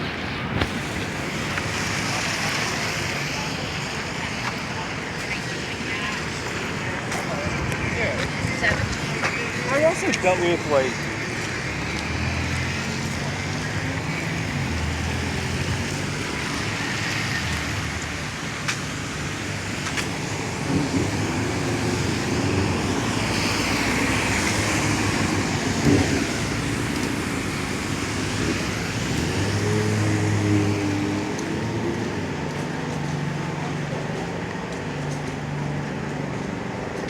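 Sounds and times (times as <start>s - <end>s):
rain hiss on wet road: 0.0s - 36.9s
vehicle engines passing: 0.0s - 37.0s
voices of passers-by: 0.0s - 37.0s.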